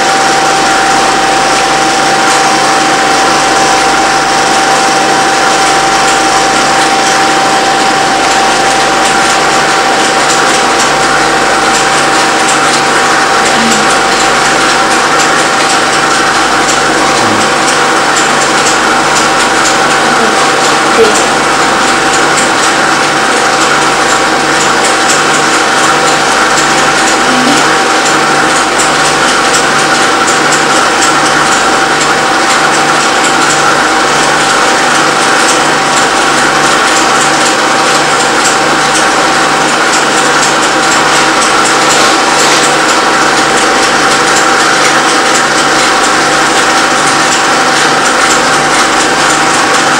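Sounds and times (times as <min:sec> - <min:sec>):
film projector whirring: 0:00.0 - 0:49.9.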